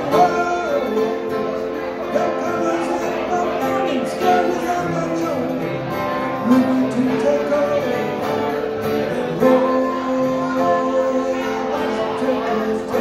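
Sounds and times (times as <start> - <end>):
picked banjo: 0.0 - 13.0
strummed acoustic guitars: 0.0 - 13.0.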